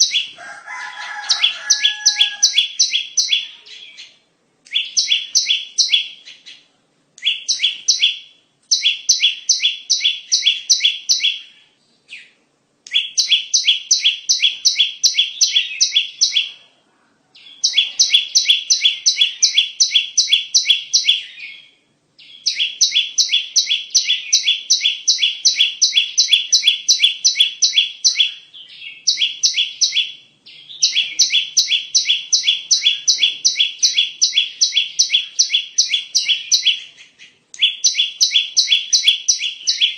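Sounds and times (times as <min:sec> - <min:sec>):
bird song sharp chirping notes: 0:00.0 - 0:00.4, 0:01.1 - 0:16.6, 0:17.4 - 0:39.9.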